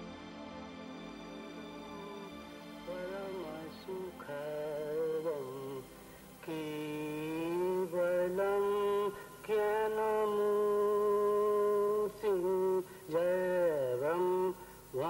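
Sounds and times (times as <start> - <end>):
man chanting: 2.9 - 15.0.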